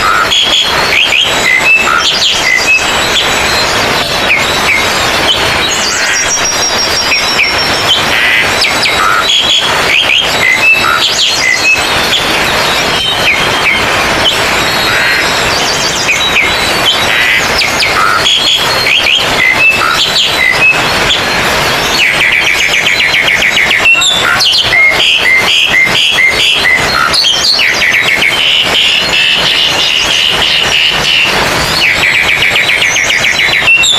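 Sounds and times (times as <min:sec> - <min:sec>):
constant noisy hiss: 0:00.0 - 0:33.9
songbirds singing in chorus: 0:00.0 - 0:33.9.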